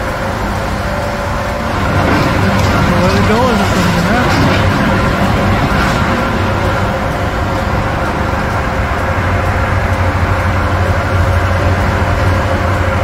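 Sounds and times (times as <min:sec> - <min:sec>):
diesel engine drone: 0:00.0 - 0:13.0
rushing noise: 0:00.0 - 0:13.0.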